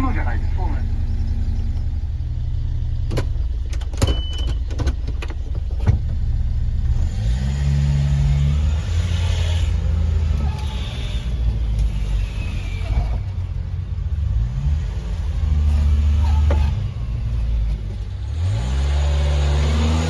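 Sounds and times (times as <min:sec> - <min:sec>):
truck engine idling and revving: 0:00.0 - 0:20.0.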